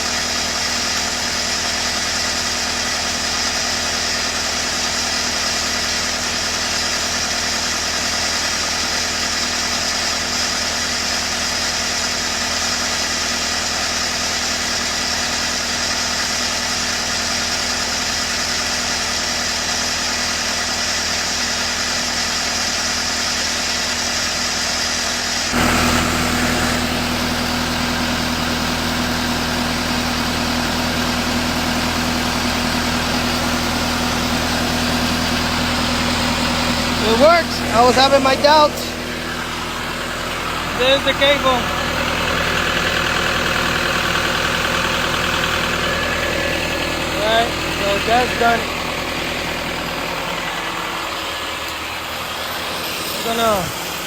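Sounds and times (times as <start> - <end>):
welder engine running: 0.0 - 54.0.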